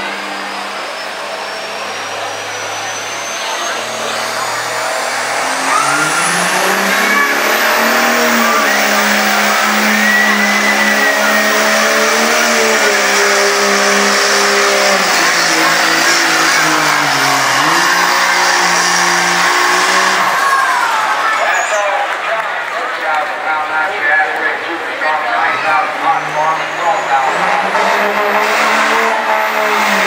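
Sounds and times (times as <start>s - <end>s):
diesel truck engine revving: 0.0s - 30.0s.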